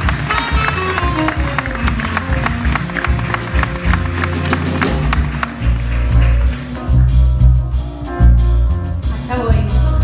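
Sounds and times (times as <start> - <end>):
deep bass notes: 0.0 - 10.0
drum kit with cymbals: 0.0 - 10.0
guitar: 0.0 - 10.0
piano: 0.0 - 10.0.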